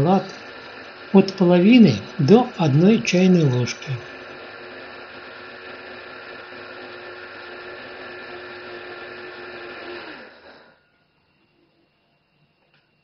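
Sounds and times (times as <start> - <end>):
electric coffee grinder running: 0.0 - 10.8
motor winding down: 0.0 - 10.8.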